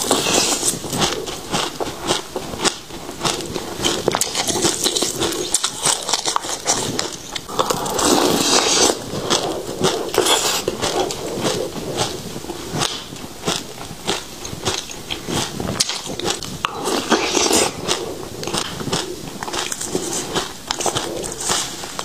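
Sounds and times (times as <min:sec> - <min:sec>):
chewing crunchy seeds: 0:00.0 - 0:22.0.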